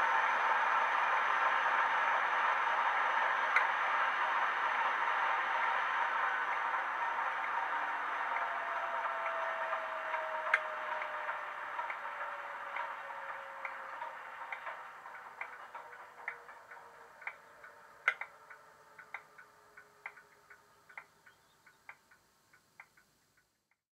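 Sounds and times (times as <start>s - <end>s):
falling whine: 0.0s - 23.0s
model diesel engine sound: 0.0s - 23.7s
sharp ticks: 3.5s - 23.8s.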